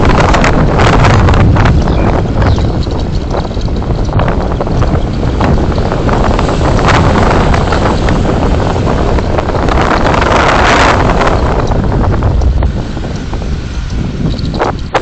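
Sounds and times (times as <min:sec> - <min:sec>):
road and wind noise in car: 0:00.0 - 0:15.0.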